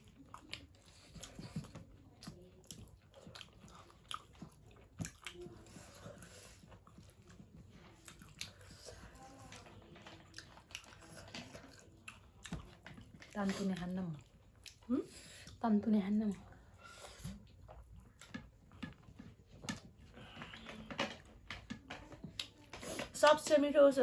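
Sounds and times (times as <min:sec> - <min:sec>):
food being chewed: 0:00.0 - 0:23.2.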